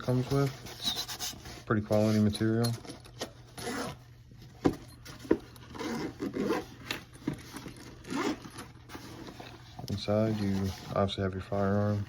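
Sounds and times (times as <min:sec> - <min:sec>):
case rubbing and scraping: 0:00.0 - 0:11.2.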